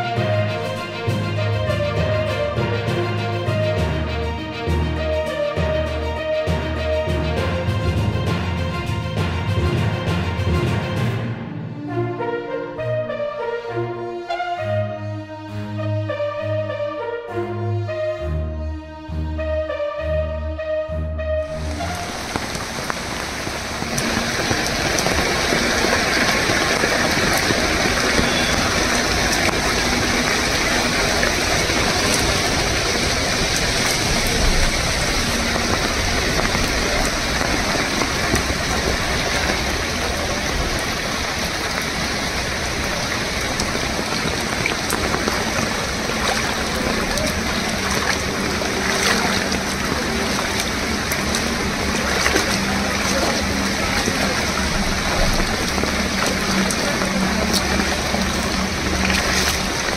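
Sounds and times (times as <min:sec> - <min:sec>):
torrential rain: 0:00.0 - 0:14.8, 0:21.4 - 0:59.9
fast-flowing floodwater: 0:00.0 - 0:14.9, 0:21.4 - 0:59.9.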